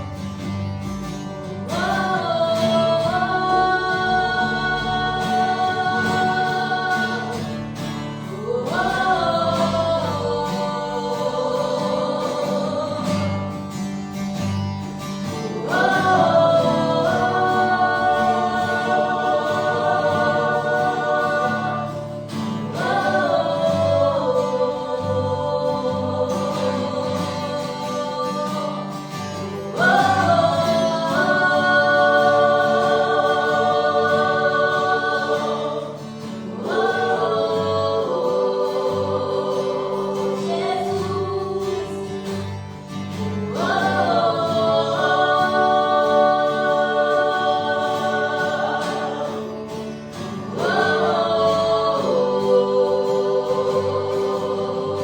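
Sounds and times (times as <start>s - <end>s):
voices singing gospel music: 0.0s - 55.0s.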